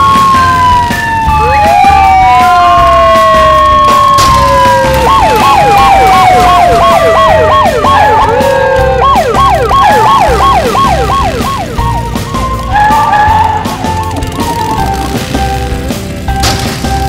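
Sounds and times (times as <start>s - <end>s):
yelping siren wail: 0.0s - 15.2s
long falling tone: 0.0s - 16.5s.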